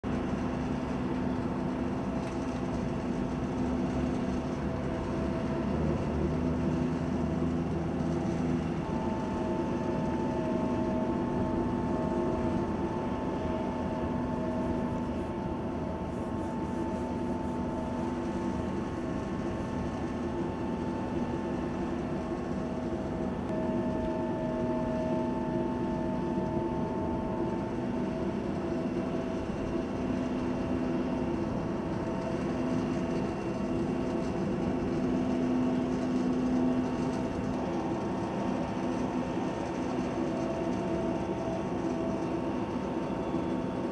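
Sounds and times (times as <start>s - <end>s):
jet engines droning: 0.1s - 43.9s.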